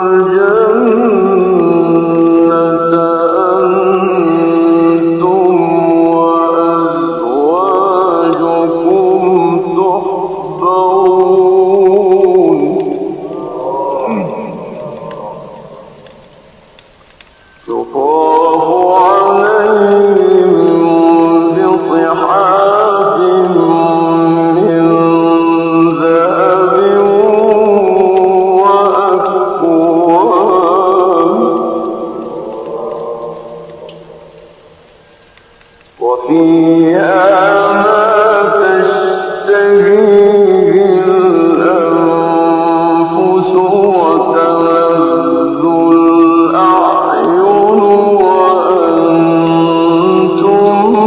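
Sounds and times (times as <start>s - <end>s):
man reciting melodically: 0.0s - 51.0s
rain hiss: 0.0s - 51.0s.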